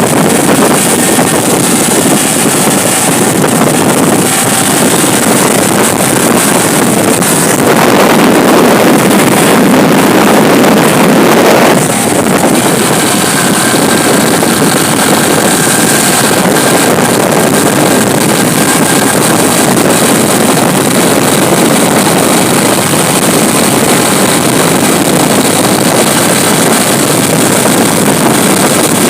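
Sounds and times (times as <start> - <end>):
vehicle engine: 0.0 - 29.0
wind and rain noise on microphone: 0.0 - 29.0.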